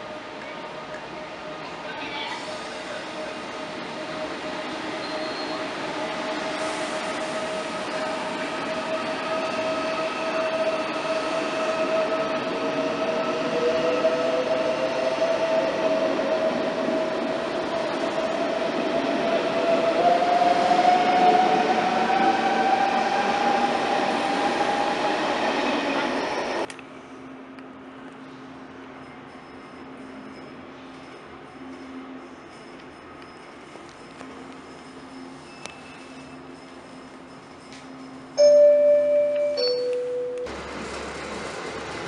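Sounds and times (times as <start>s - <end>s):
rushing noise of moving train: 0.0s - 42.0s.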